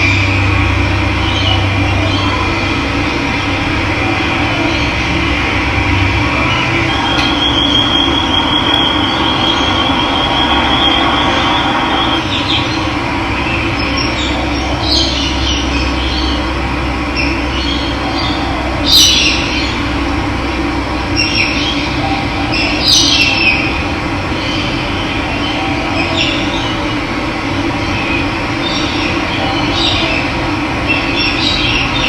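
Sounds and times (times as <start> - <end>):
birds calling: 0.0 - 20.2, 20.8 - 32.0.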